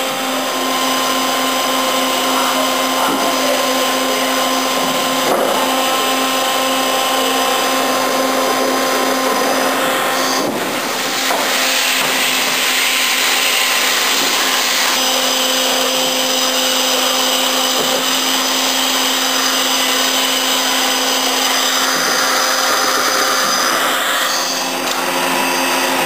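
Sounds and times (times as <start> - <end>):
machining center whirring: 0.0 - 26.0.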